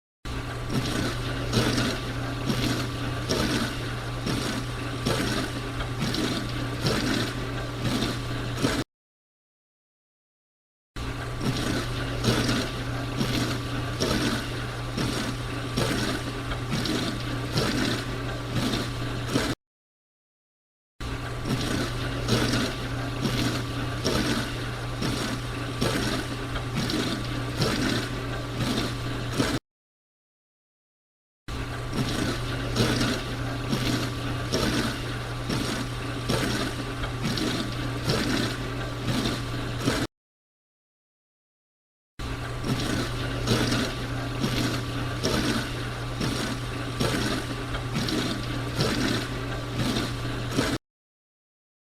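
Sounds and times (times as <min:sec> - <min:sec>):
dishwasher pump hum: 0:00.3 - 0:08.8, 0:11.0 - 0:19.6, 0:21.0 - 0:29.6, 0:31.5 - 0:40.1, 0:42.2 - 0:50.8
dishwasher water spray swishing: 0:00.3 - 0:08.8, 0:11.0 - 0:19.6, 0:21.1 - 0:29.6, 0:31.5 - 0:40.1, 0:42.2 - 0:50.8.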